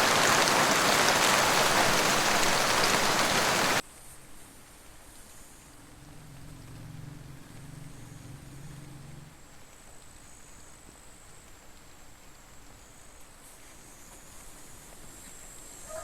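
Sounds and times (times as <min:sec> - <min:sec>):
rain hiss: 0:00.0 - 0:16.0.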